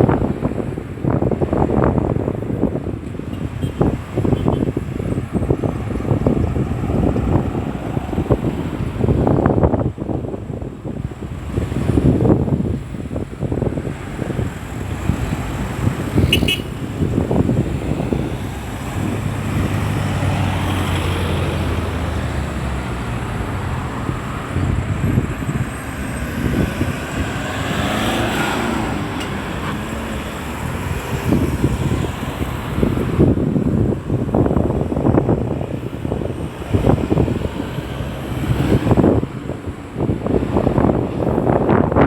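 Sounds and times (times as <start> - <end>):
cars going by: 0.0 - 42.0
heavy vehicle engine hum: 0.0 - 42.0.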